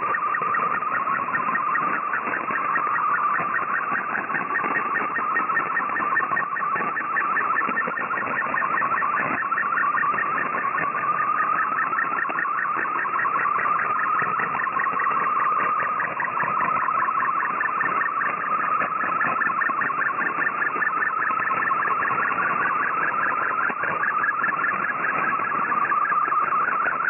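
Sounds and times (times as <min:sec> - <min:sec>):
radio band hiss: 0:00.0 - 0:27.0
rapid regular ticking: 0:00.0 - 0:27.0
warbling data tone: 0:00.0 - 0:27.0.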